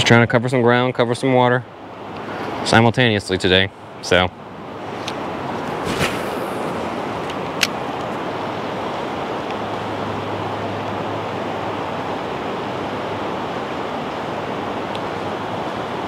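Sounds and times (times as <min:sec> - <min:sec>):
river water rushing: 0:01.6 - 0:02.8, 0:03.7 - 0:16.0.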